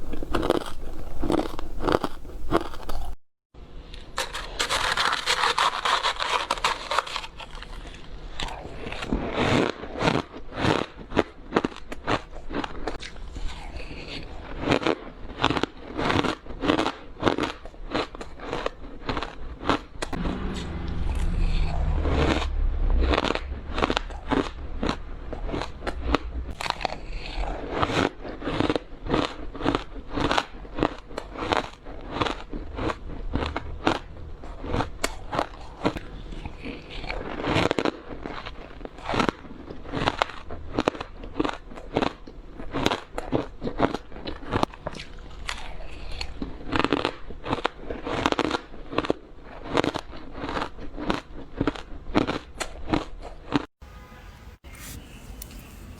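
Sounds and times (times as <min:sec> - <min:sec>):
biting frozen ice crunches: 0:00.0 - 0:03.2, 0:03.8 - 0:20.2, 0:21.0 - 0:53.7.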